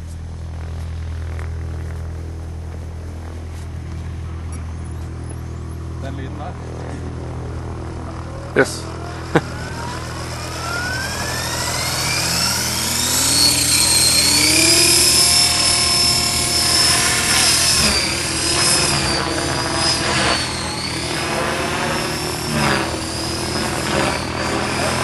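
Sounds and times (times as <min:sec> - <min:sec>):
rc helicopter high-pitched whine: 0:00.0 - 0:25.0.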